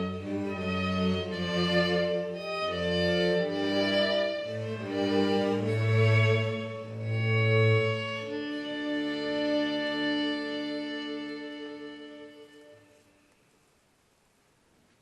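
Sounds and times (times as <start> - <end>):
violin and cello long notes: 0.0 - 13.2.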